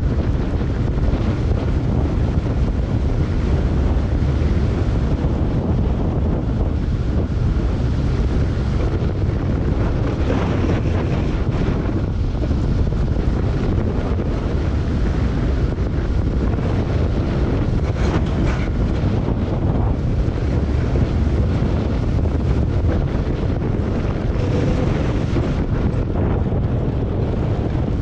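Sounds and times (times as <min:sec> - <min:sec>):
sled wheels rumbling on steel rail: 0:00.0 - 0:28.0
wind rush on microphone: 0:00.0 - 0:28.0.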